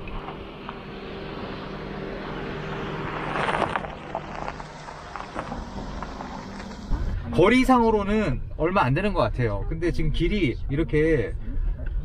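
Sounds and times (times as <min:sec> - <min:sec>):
car engine hum: 0:00.0 - 0:12.0
road and tyre noise: 0:00.0 - 0:12.0.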